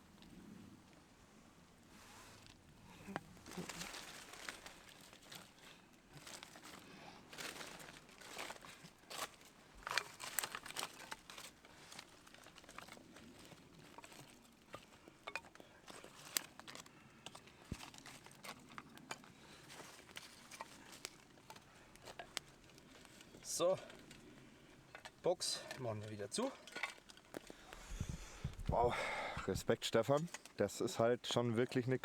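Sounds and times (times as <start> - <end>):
kindling fire crackling: 0.1 - 30.6.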